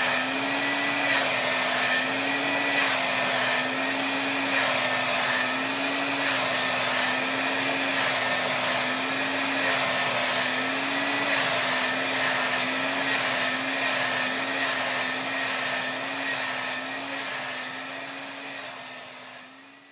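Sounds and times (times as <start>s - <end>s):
hair dryer blowing: 0.0s - 19.9s.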